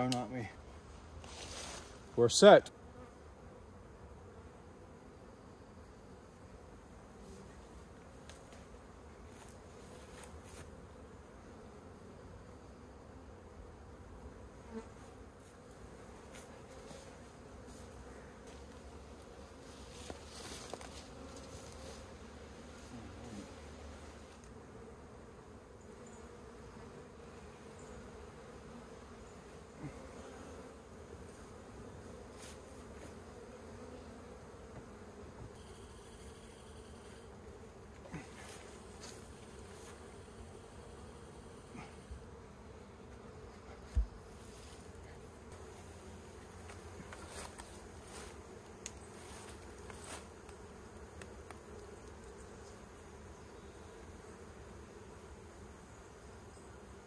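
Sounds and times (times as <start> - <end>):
bees buzzing: 0.6 - 57.0.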